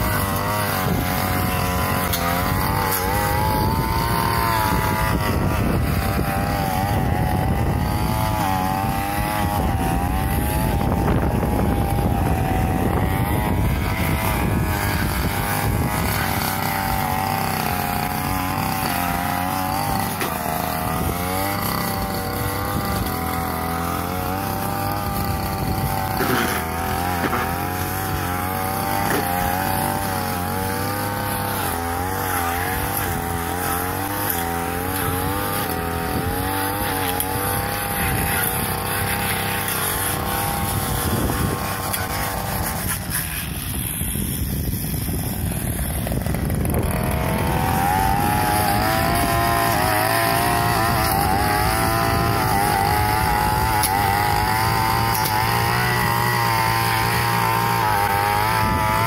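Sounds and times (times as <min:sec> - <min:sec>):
brush cutter engine cutting grass: 0:00.0 - 0:59.0.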